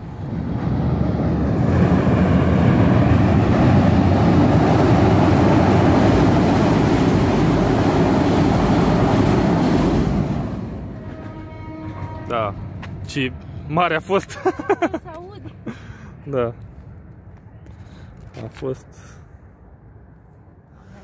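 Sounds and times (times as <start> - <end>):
train passing overhead: 0.0 - 21.0.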